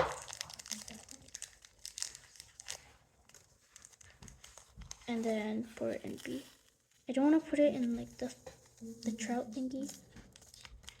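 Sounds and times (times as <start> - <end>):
plastic packet tearing and crinkling: 0.0 - 7.0, 7.8 - 11.0.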